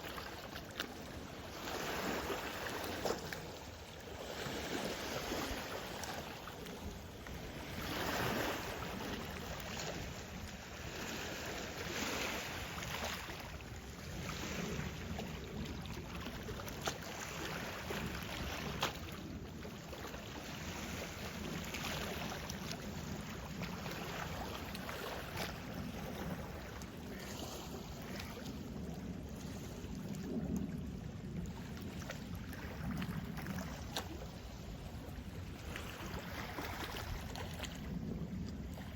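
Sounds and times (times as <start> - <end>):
lake water lapping and splashing: 0.0 - 38.9
wind on microphone: 0.0 - 38.9.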